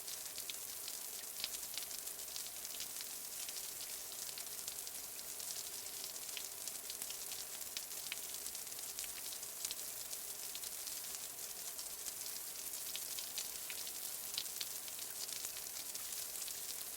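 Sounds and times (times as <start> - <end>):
light rain falling: 0.0 - 16.9.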